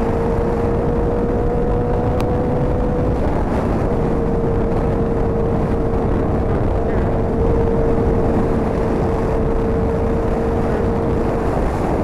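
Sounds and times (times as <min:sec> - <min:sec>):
motorcycle engine: 0:00.0 - 0:12.0
rushing wind noise: 0:00.0 - 0:12.0.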